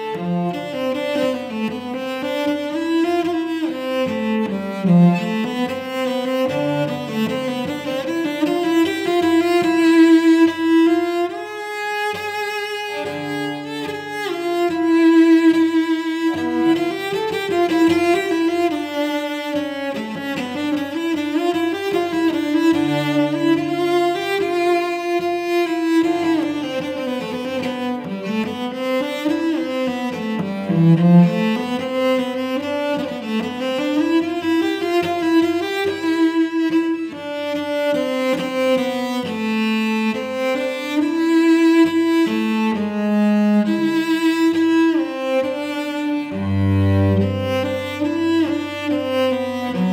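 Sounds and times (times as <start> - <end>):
bowed cello: 0.0 - 49.9.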